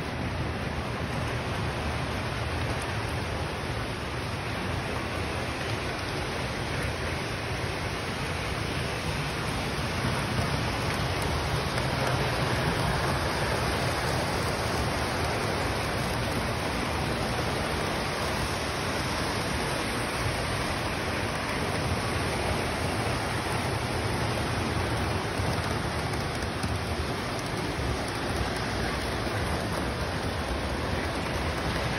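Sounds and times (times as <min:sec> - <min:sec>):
model trains rumbling on track: 0:00.0 - 0:31.9.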